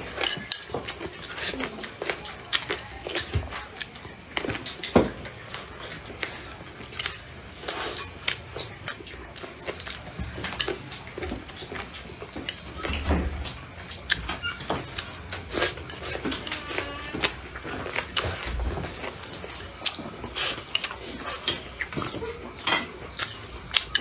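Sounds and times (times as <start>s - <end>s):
chewing and wet mouth noises: 0.0s - 24.0s.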